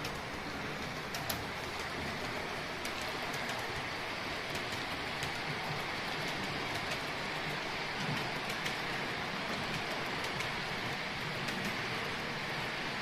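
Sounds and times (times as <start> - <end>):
model train wheels hissing on rail: 0.0 - 13.0.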